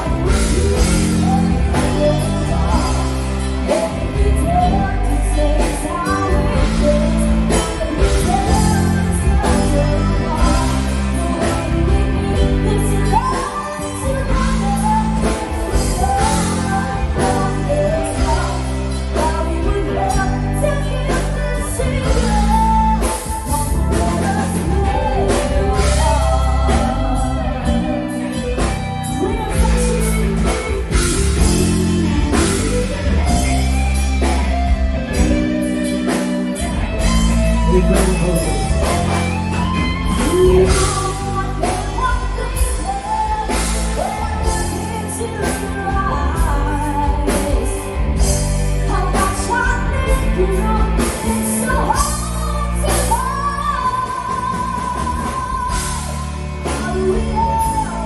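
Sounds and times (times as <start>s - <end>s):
heavy bass notes: 0.0s - 58.0s
rock song with lead singer: 0.0s - 58.0s.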